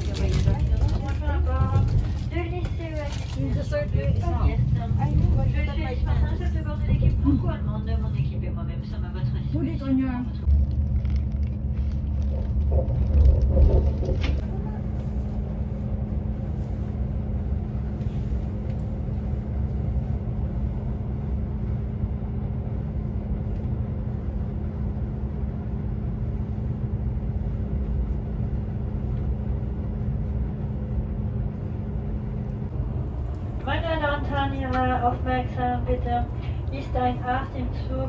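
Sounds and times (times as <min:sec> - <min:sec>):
train rumble inside cabin: 0:00.0 - 0:38.0.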